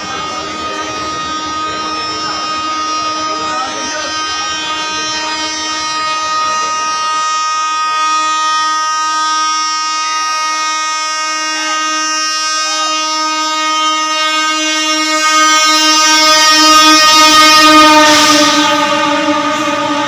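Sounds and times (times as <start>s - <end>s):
train horn long blast: 0.0s - 20.0s.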